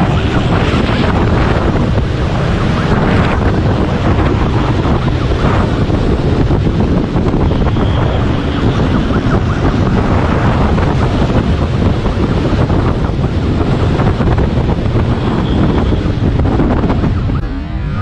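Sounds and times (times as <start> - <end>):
vehicle and road noise: 0.0 - 18.0
wind buffeting microphone: 0.0 - 18.0.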